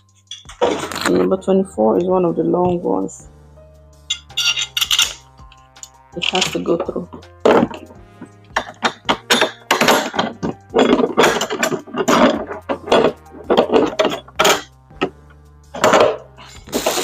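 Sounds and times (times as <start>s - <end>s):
plastic parts knocking and clattering: 0.2s - 1.3s, 4.1s - 17.0s.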